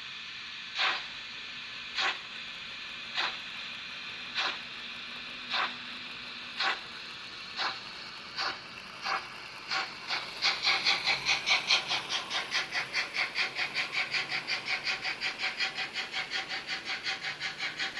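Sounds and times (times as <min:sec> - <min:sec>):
model steam locomotive chuffs: 0:00.0 - 0:17.9.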